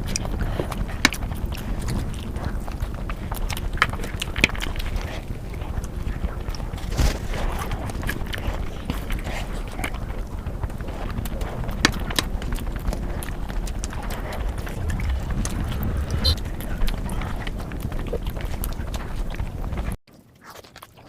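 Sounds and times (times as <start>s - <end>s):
low rumble: 0.0s - 20.0s
chewing and mouth noises: 0.0s - 21.0s
sharp clicks and crunches: 0.0s - 21.0s.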